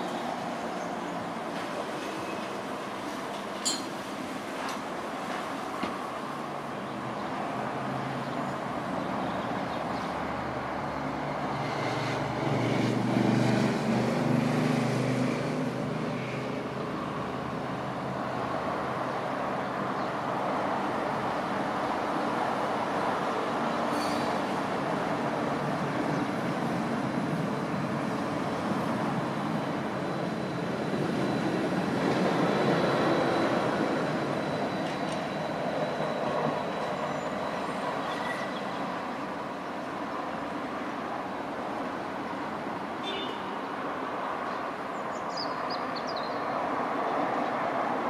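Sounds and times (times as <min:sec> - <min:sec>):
road traffic noise: 0:00.0 - 0:48.0.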